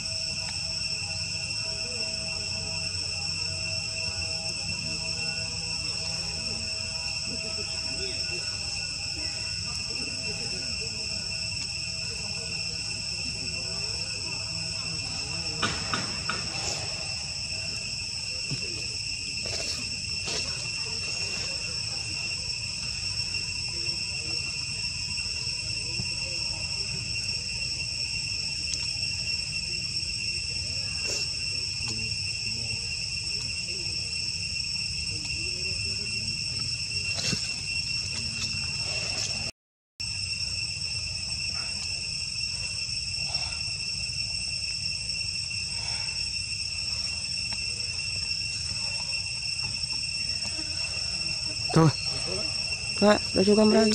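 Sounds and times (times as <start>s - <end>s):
insects shrilling: 0.0s - 53.9s.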